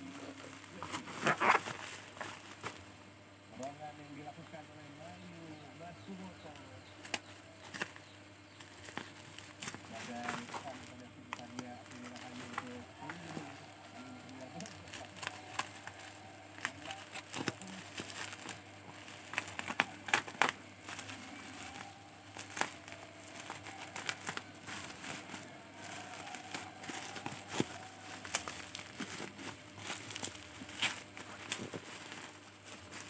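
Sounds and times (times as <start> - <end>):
plastic packaging crinkling: 0.1 - 2.9, 6.0 - 33.0.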